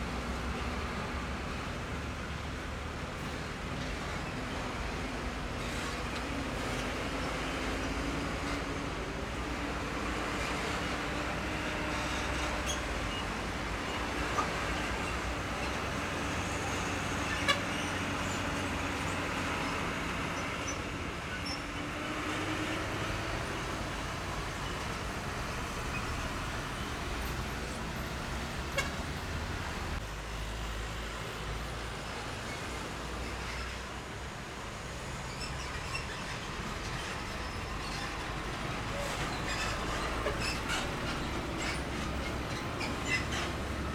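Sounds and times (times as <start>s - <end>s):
diesel truck engine drone: 0.0s - 43.9s.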